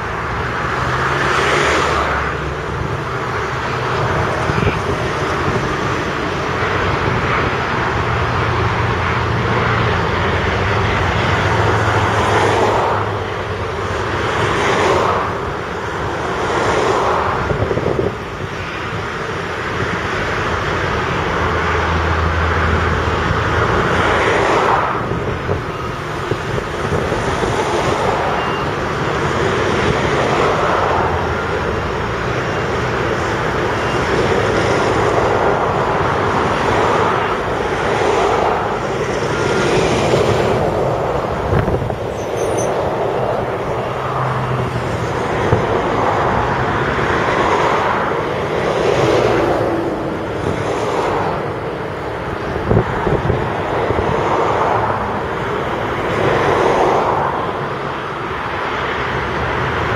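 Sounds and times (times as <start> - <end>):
heavy diesel engines surging: 0.0 - 59.9.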